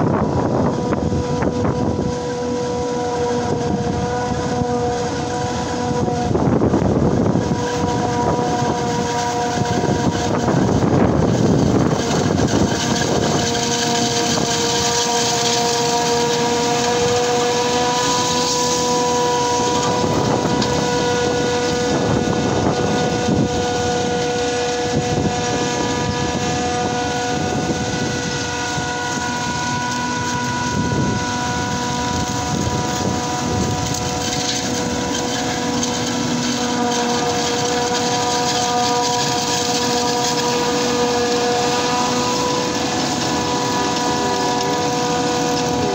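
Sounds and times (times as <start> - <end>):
forage harvester engine: 0.0 - 45.9
steady machine whine: 0.0 - 45.9.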